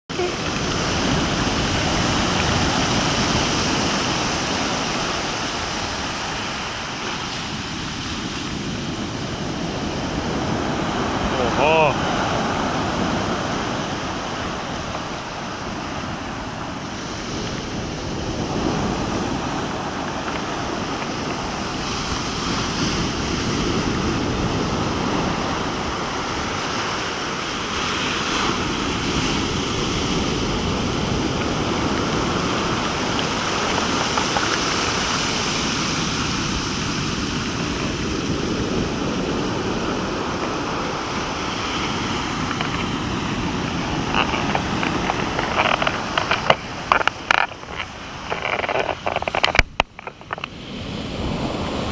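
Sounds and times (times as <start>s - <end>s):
waves breaking on shore: 0.1s - 51.9s.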